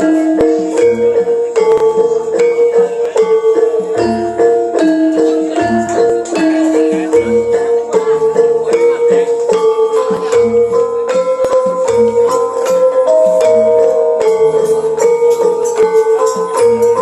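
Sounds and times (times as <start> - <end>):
gamelan music over loudspeakers: 0.0 - 17.0.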